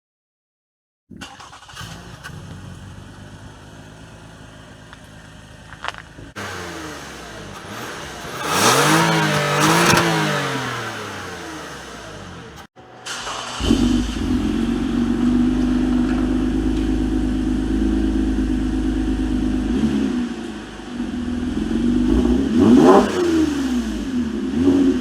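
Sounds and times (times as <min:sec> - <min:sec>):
car engine idling and revving: 0:01.1 - 0:25.0.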